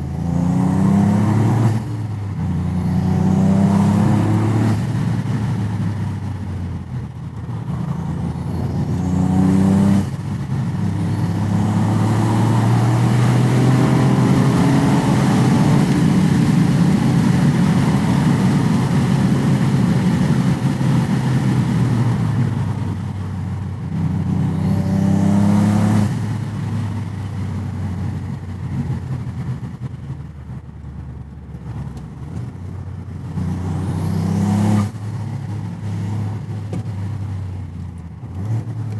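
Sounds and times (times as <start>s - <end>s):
car engine accelerating: 0.0s - 6.2s, 7.2s - 27.5s, 31.2s - 38.9s.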